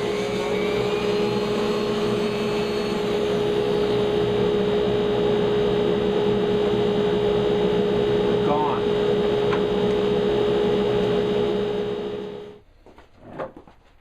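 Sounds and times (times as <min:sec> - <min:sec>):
dust collector humming: 0:00.0 - 0:12.6.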